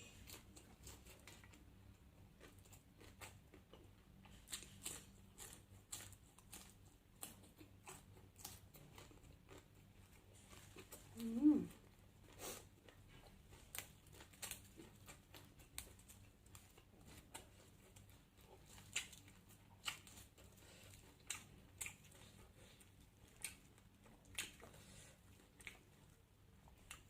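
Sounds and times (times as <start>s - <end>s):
low room hum: 0.0s - 27.0s
person chewing food: 0.0s - 27.0s.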